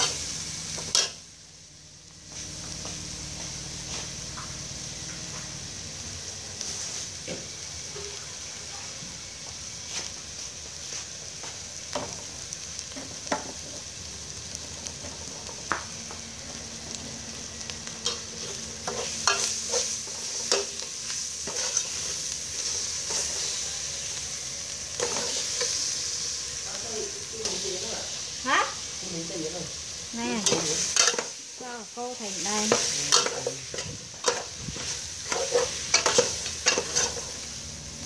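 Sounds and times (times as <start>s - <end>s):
paste sizzling in oil: 0.0s - 38.0s.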